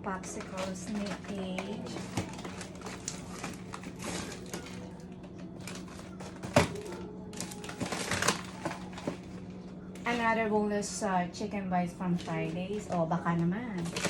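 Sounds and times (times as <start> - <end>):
freezer hum: 0.0 - 14.0
plastic-wrapped packages rustling: 0.1 - 10.4, 12.1 - 14.0.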